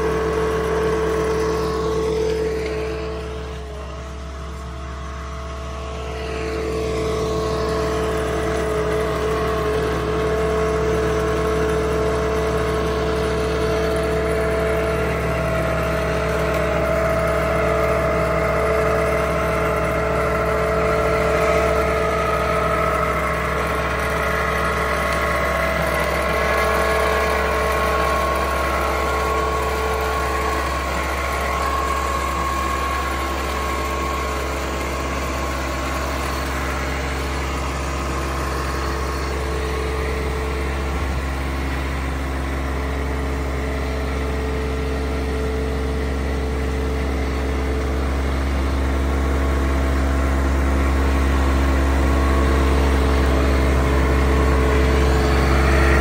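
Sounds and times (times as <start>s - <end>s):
flail mower whine: 0.0s - 56.0s
tractor diesel engine running: 0.0s - 56.0s.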